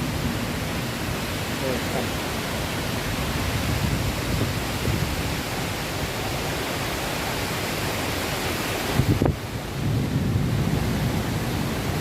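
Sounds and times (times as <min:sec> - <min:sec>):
heavy rain in strong wind: 0:00.0 - 0:12.0.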